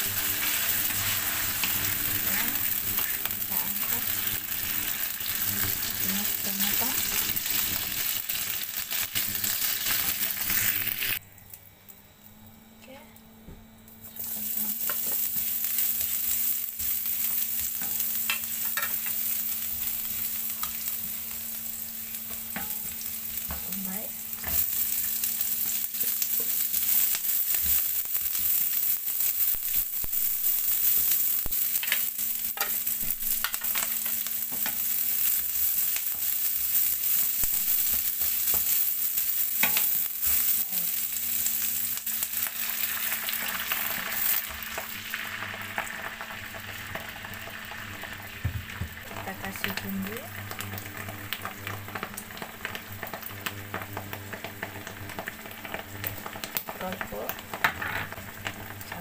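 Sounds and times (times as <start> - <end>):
garlic and onion sizzling in oil: 0.0 - 11.2, 14.0 - 59.0.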